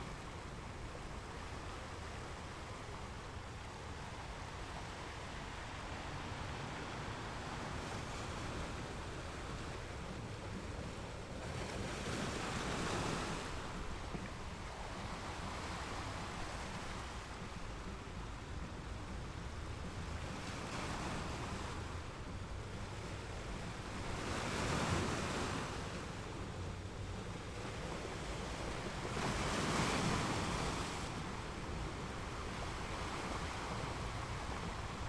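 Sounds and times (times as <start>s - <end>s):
ocean waves washing on shore: 0.0s - 35.0s.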